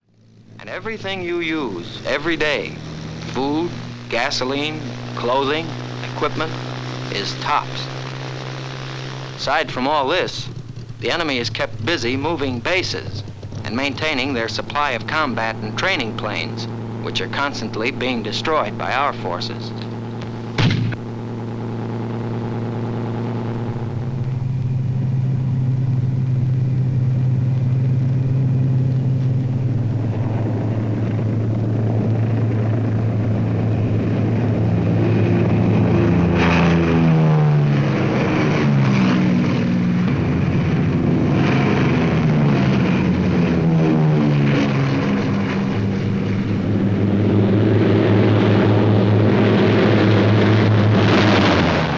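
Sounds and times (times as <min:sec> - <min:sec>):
propeller aircraft engines droning: 0:00.0 - 0:51.9
planes passing by: 0:00.1 - 0:51.9.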